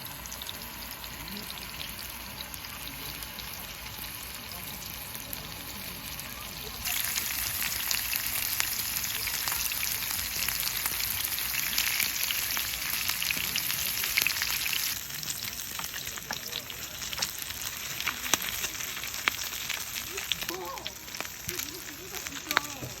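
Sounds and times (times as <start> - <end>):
food sizzling and crackling: 0.0 - 23.0.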